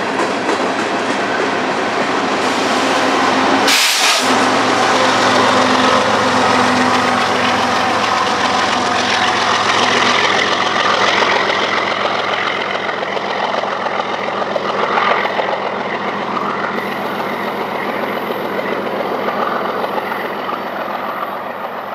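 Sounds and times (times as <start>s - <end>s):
locomotive engine drone: 0.0s - 21.9s
train wheels on rails: 0.0s - 21.9s.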